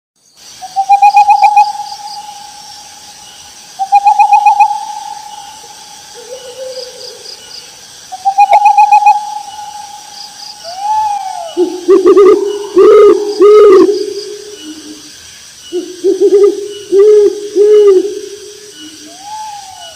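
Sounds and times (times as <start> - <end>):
faint insect chorus: 0.2 - 19.9
owl hooting: 0.6 - 2.6, 3.8 - 7.2, 8.2 - 15.1, 15.7 - 19.9.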